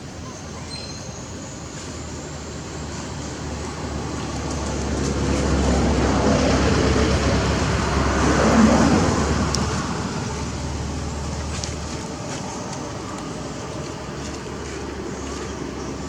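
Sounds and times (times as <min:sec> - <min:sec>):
steady low traffic rumble: 0:00.0 - 0:16.0
vehicle passing by: 0:02.7 - 0:16.0.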